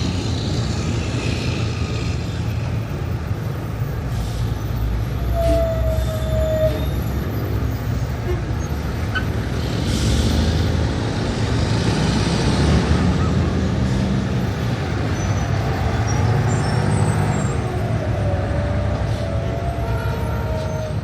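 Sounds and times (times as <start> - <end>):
traffic engines rumbling: 0.0 - 21.0.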